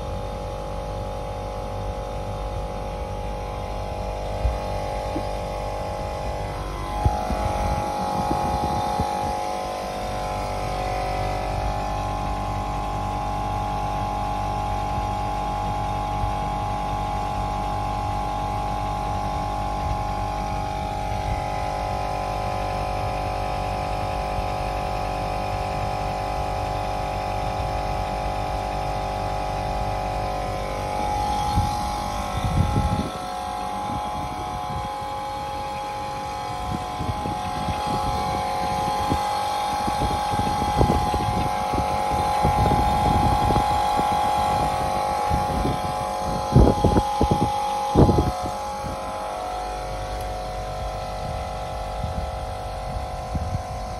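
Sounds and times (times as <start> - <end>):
machine humming: 0.0 - 53.9.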